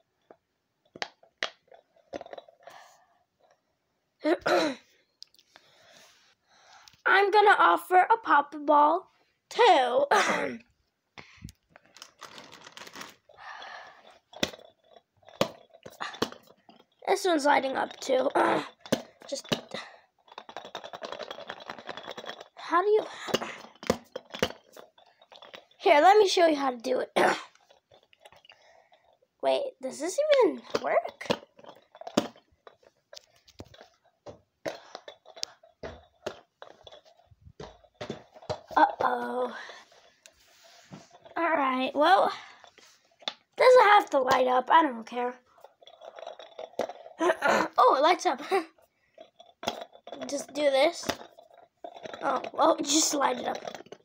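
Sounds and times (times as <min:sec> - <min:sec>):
rustling and crinkling of toys: 0:00.0 - 0:54.0.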